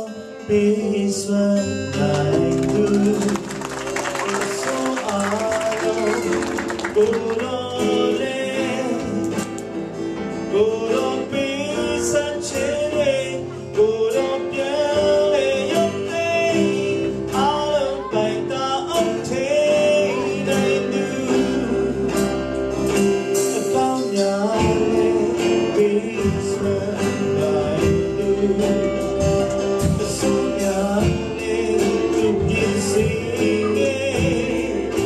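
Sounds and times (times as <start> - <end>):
man singing into microphone: 0.0 - 3.6, 4.2 - 9.6, 10.4 - 35.0
small band playing: 0.0 - 35.0
strummed acoustic guitar: 0.0 - 35.0.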